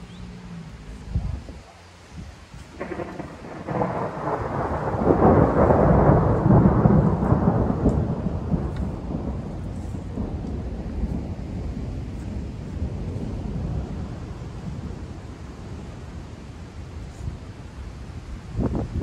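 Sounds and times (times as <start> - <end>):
thunder rolling: 2.6 - 19.0.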